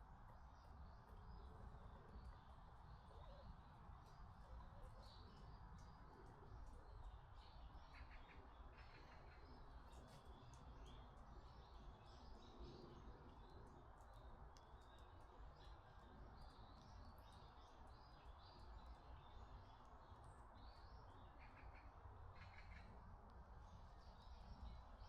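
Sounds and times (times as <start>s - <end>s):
small birds chirping: 0.4s - 25.0s.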